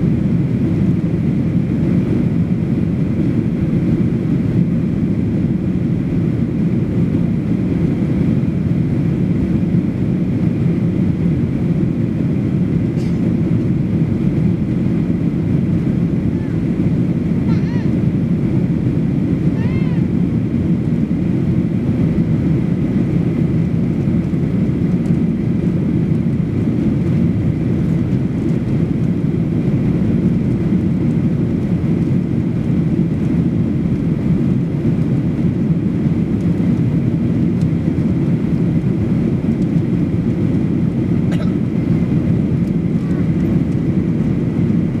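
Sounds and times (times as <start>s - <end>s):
airplane cabin roar: 0.0s - 45.0s.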